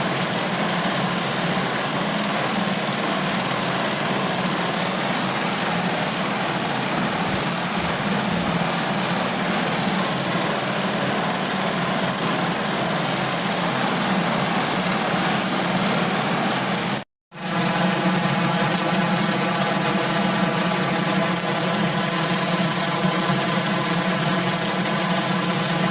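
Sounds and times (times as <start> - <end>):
rain drumming on a car roof: 0.0 - 25.9.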